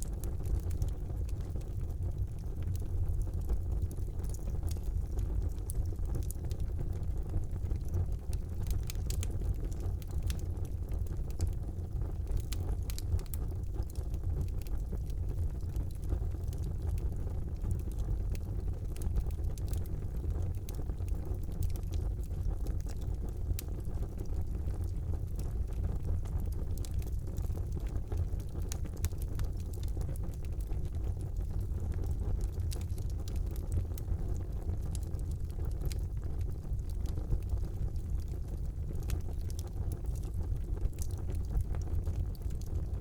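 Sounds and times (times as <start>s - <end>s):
fire crackles and pops: 0.0s - 43.0s
low rumble of flames: 0.0s - 43.0s.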